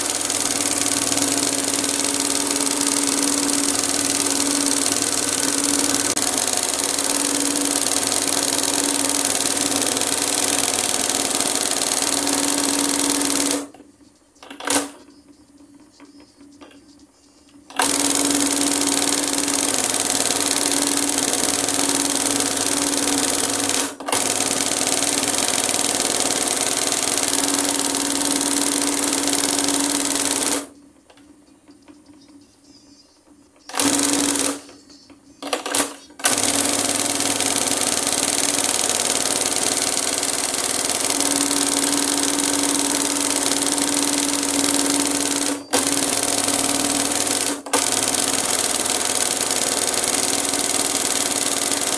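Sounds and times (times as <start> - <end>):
embroidery machine stitching: 0.0 - 13.8, 17.7 - 30.7, 33.7 - 34.7, 35.5 - 51.9.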